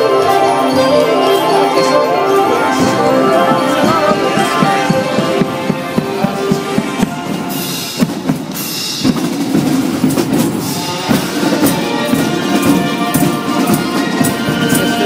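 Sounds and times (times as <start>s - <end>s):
holiday music: 0.0s - 15.0s.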